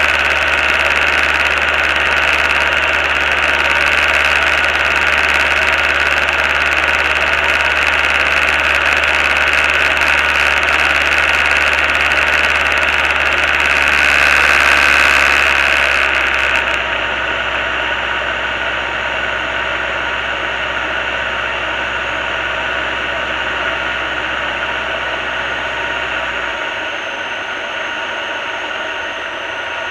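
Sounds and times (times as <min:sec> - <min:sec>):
light aircraft engine drone: 0:00.0 - 0:29.9.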